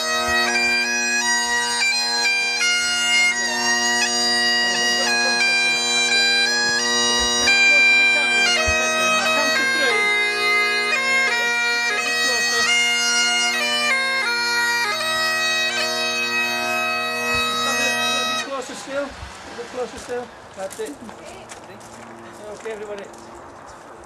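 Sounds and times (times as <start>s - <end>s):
bagpipes playing: 0.0s - 23.2s.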